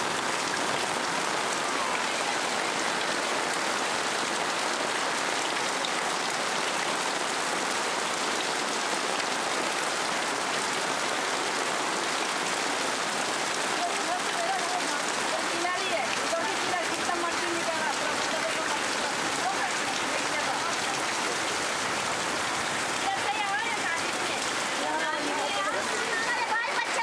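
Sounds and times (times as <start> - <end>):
heavy rain falling on water: 0.0 - 27.0.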